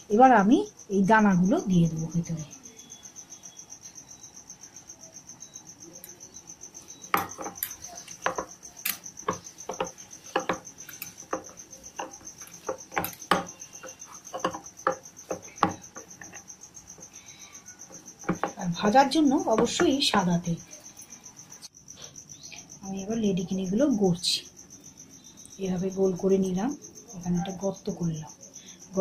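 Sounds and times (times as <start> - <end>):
cricket chirping: 0.0 - 29.0.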